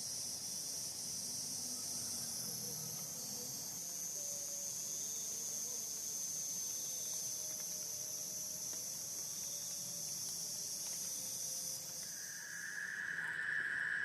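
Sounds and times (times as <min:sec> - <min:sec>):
high-pitched insect drone: 0:00.0 - 0:14.0
lower-pitched insect trill: 0:00.0 - 0:14.0.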